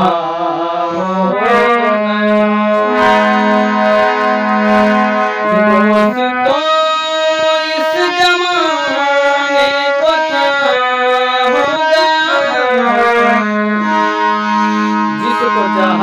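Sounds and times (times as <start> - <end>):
harmonium melody: 0.0 - 16.0.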